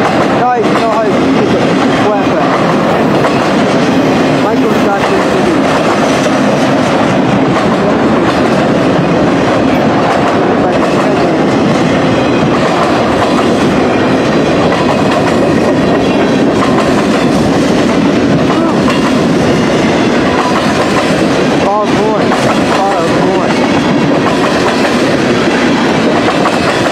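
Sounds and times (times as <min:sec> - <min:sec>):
freight train wheels rumbling on rails: 0:00.0 - 0:26.9.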